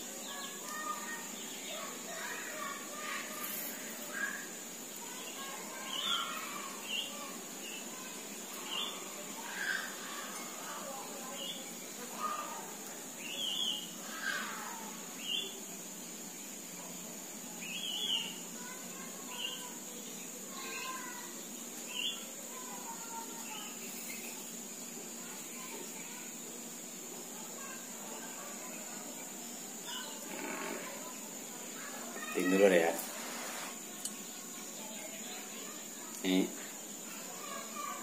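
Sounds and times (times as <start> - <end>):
background hiss: 0.0 - 38.0
small birds chirping: 0.0 - 38.0.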